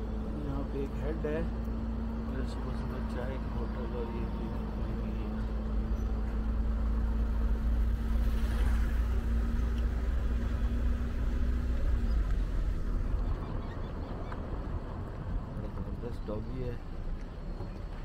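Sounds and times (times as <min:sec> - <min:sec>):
vehicle engine running: 0:00.0 - 0:14.6.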